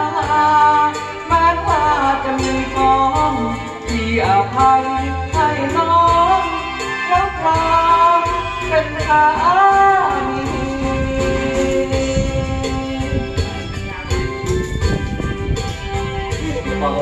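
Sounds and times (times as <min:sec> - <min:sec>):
man singing into microphone: 0:00.0 - 0:13.8, 0:16.5 - 0:17.0
backing music track: 0:00.0 - 0:17.0.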